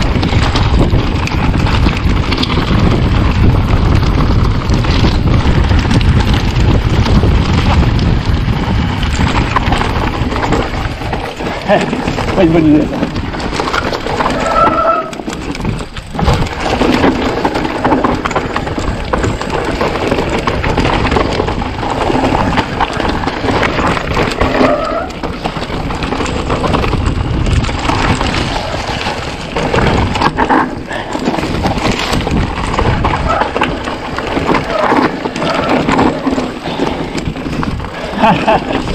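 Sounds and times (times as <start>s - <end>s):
bike knocking and rattling: 0.0s - 38.9s
bike tyres rushing over trail: 0.0s - 38.9s.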